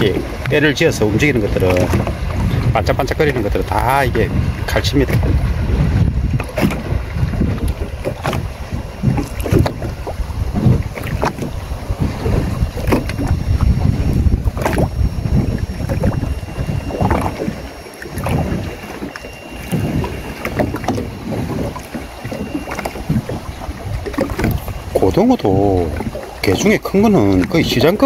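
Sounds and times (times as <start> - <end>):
water lapping at boat hull: 0.0 - 28.0
wind buffeting microphone: 0.0 - 28.0.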